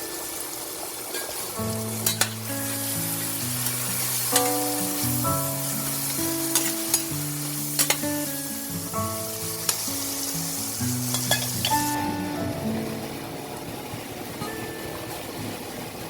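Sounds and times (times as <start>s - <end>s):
food sizzling in a pan: 0.0s - 15.5s.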